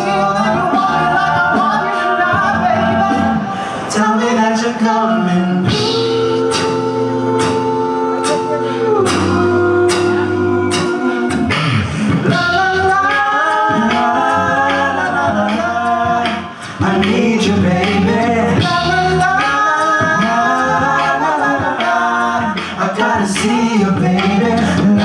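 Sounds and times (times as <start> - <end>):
male group singing in harmony: 0.0 - 25.0.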